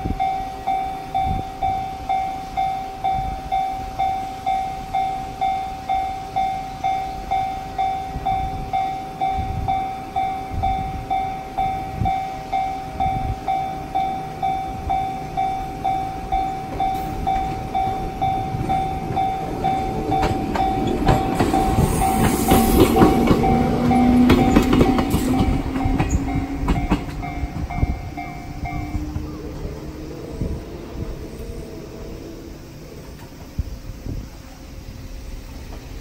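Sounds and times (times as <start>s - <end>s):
railcar rumble: 0.0s - 36.0s
level crossing bell clanging: 0.1s - 31.7s
railcar wheels clicking over joints: 0.1s - 36.0s.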